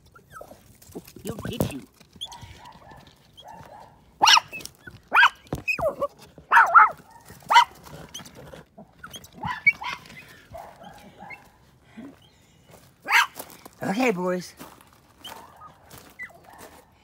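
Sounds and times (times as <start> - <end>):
dogs barking and yelping: 0.0 - 1.0, 2.0 - 13.4, 15.2 - 17.0.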